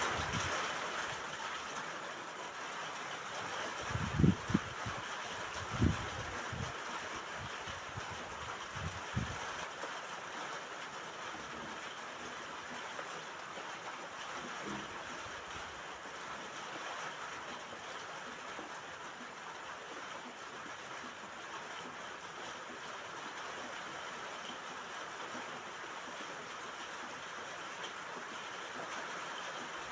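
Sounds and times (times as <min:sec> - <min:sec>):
rain on a roof: 0:00.0 - 0:29.9.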